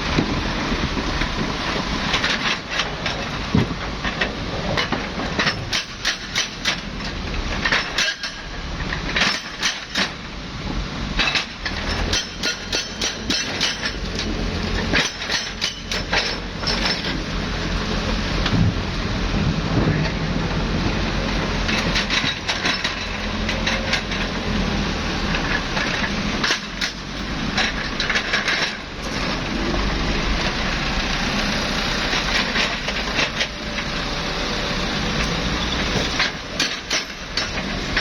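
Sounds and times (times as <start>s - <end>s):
excavator rumble: 0.0s - 38.0s
metallic clanks and rattles: 0.1s - 10.2s, 11.2s - 19.1s, 20.9s - 30.6s, 32.0s - 34.1s, 35.1s - 38.0s.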